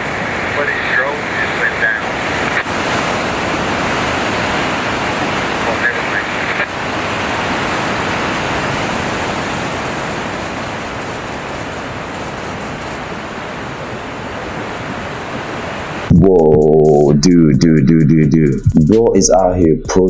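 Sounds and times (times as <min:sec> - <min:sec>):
ocean surf: 0:00.0 - 0:16.1
wind: 0:00.0 - 0:16.1.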